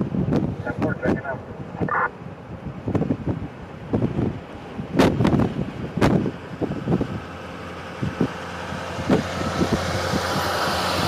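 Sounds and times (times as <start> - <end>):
engine low hum: 0.0 - 11.0.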